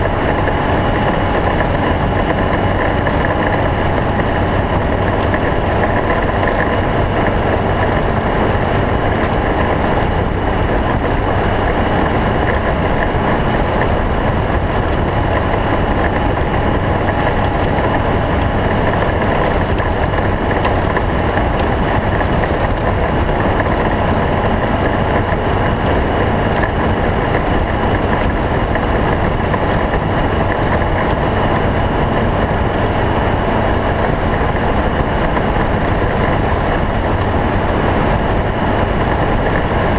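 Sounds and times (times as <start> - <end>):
race car engine running: 0.0 - 39.9
wind and driving noise: 0.0 - 39.9.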